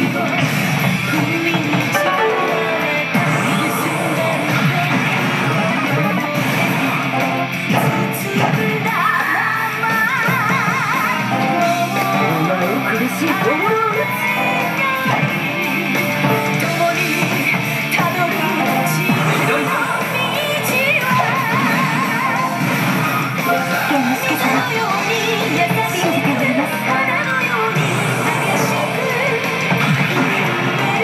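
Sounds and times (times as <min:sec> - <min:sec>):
rock game music with guitar: 0:00.0 - 0:31.0
person singing: 0:01.1 - 0:22.6, 0:23.4 - 0:31.0.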